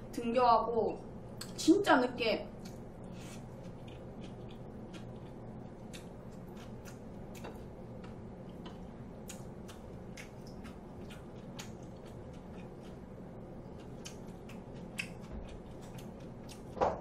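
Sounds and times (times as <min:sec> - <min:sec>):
steady low hum: 0:00.0 - 0:17.0
person chewing food: 0:02.6 - 0:16.8.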